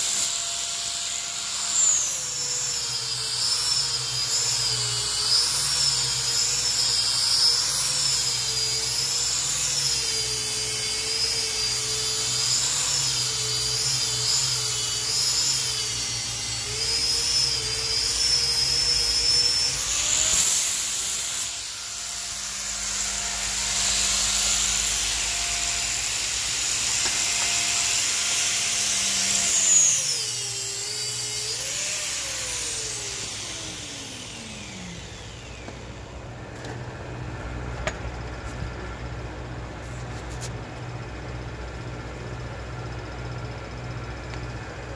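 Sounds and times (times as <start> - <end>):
air-powered sander whining: 0.0 - 44.9.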